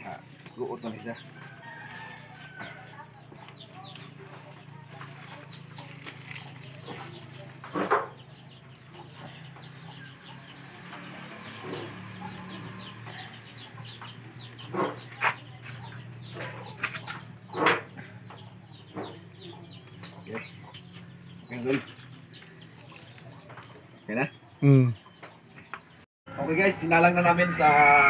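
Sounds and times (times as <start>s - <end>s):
chickens clucking: 0.0s - 26.6s.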